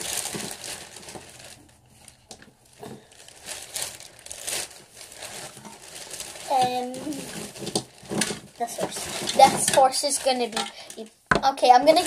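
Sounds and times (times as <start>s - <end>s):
crinkling and rustling: 0.0s - 12.0s.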